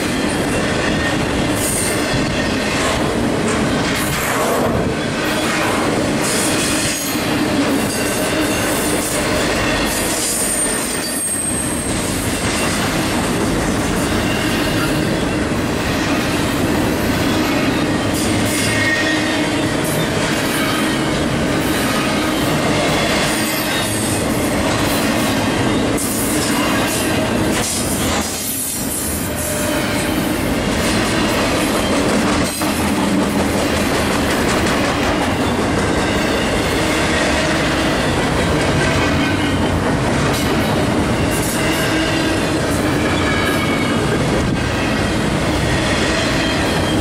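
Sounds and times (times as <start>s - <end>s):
train wheels clattering on rails: 0.0s - 47.0s.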